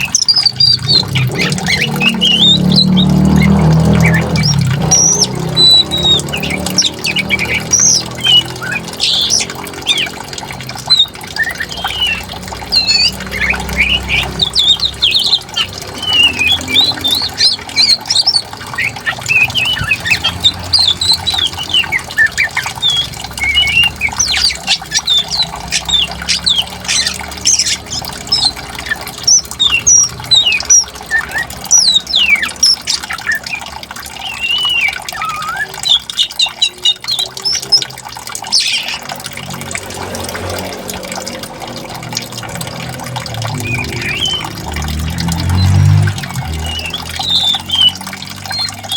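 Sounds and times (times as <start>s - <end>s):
flowing water: 0.0s - 48.9s
songbirds chirping and whistling: 0.0s - 48.9s.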